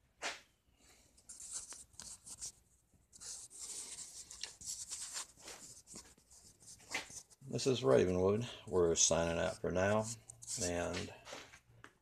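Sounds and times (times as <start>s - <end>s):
faint scratchy rustling: 1.0s - 11.6s.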